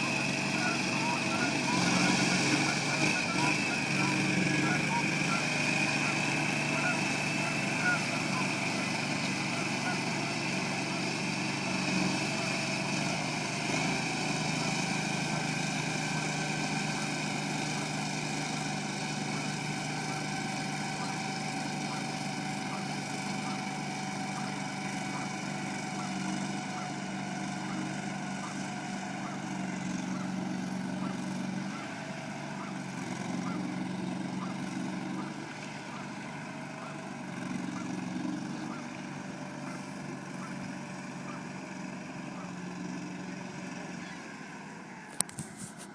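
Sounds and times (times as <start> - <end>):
amphibious vehicle engine running: 0.0 - 45.9.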